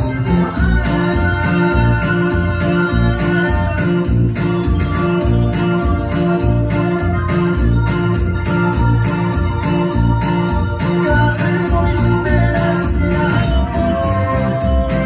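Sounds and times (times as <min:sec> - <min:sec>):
dance music with electronic organ: 0:00.0 - 0:15.0
steady bass beat: 0:00.0 - 0:15.0.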